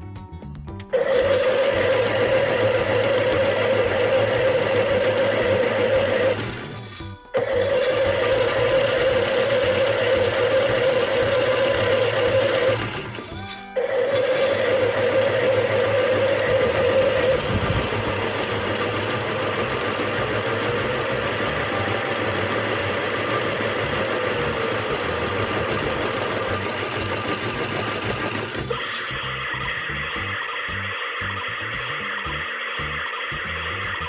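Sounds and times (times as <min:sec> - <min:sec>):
small motor buzzing hum: 0:01.0 - 0:34.0.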